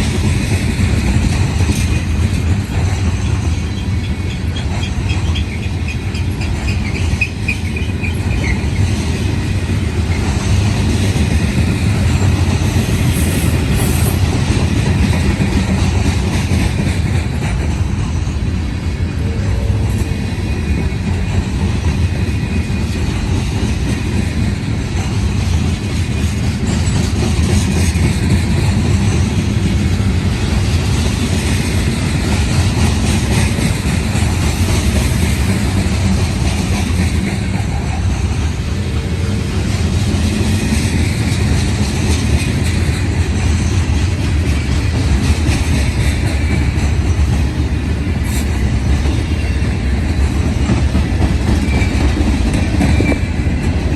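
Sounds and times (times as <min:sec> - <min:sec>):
steel wheels rumbling on rails: 0:00.0 - 0:53.9.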